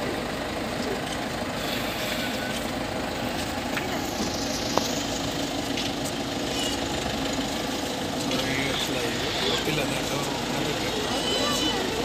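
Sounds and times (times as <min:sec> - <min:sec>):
car engine idling: 0:00.0 - 0:12.0
crowd murmur: 0:00.0 - 0:12.0.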